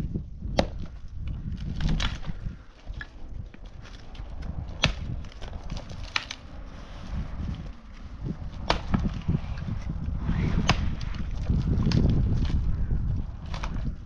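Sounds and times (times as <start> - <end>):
dry branches snapping: 0.4 - 14.0.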